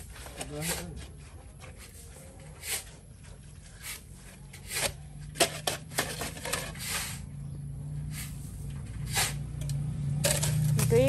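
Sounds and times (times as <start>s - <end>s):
steel cage scraping and rubbing: 0.0s - 7.4s, 8.0s - 11.0s.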